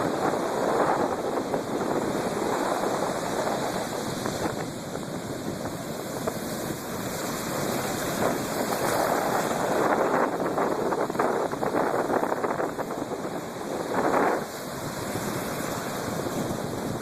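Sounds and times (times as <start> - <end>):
breaking waves rushing: 0.0 - 17.0
wind on microphone: 0.0 - 17.0.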